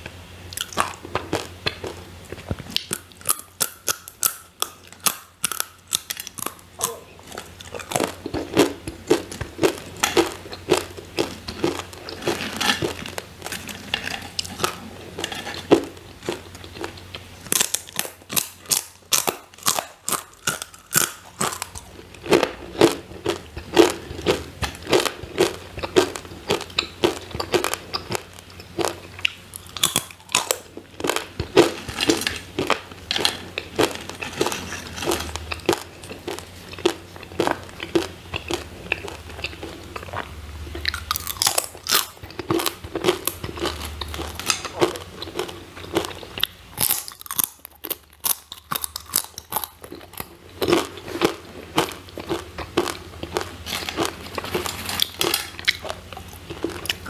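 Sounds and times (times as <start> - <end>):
chewing crispy chips: 0.5 - 57.0.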